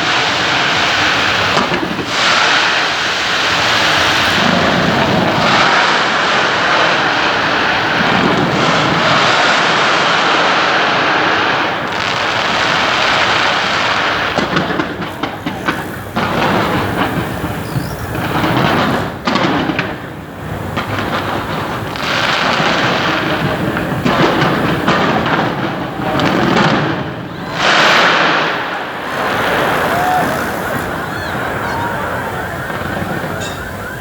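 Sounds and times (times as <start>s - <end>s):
fireworks crackling: 0.0s - 34.0s
fireworks explosions roaring: 0.0s - 34.0s.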